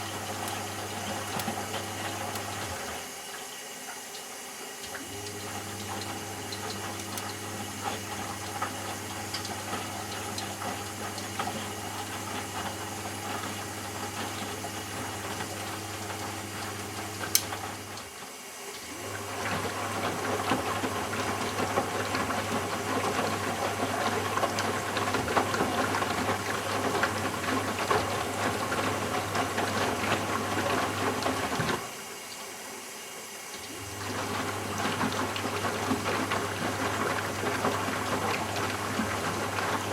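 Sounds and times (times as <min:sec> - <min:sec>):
washing machine motor humming: 0:00.0 - 0:39.9
water and laundry sloshing: 0:00.0 - 0:39.9.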